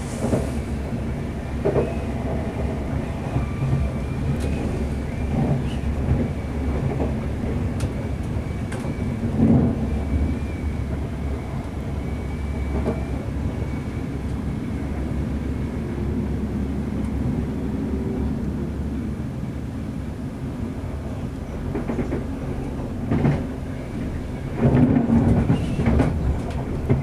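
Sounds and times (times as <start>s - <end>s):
train diesel engine rumble: 0.0s - 27.0s
train wheels on rail: 0.0s - 27.0s.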